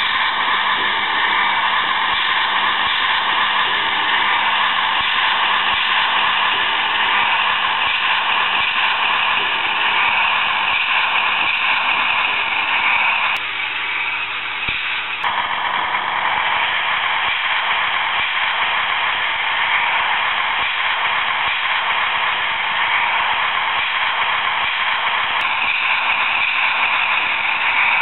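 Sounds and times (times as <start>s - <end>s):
machine sound from small speaker: 0.0s - 28.0s.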